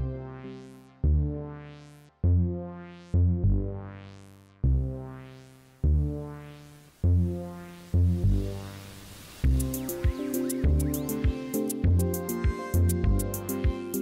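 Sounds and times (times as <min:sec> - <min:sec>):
synthesizer notes: 0:00.0 - 0:14.0.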